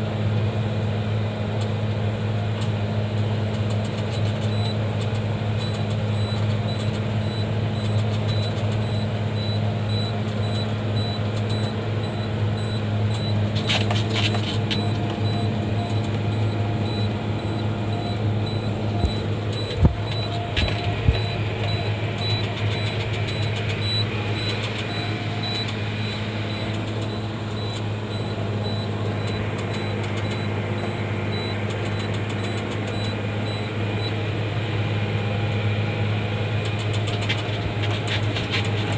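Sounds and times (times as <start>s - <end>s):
tractor engine humming: 0.0s - 38.9s.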